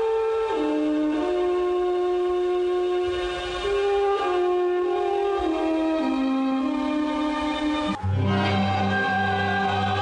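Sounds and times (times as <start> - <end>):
wind instrument melody: 0.0 - 10.0.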